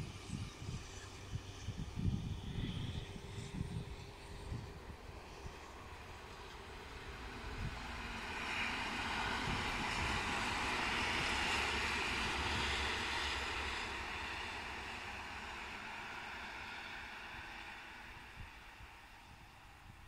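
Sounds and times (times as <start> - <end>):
train wheels rushing on rails: 2.5 - 19.4.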